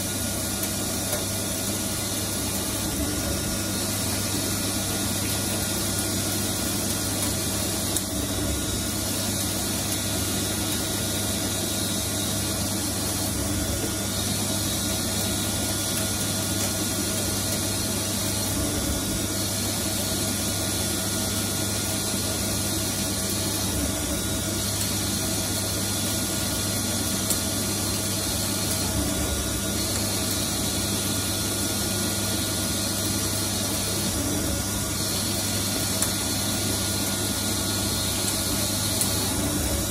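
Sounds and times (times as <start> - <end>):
lathe hum and hiss: 0.0 - 39.9.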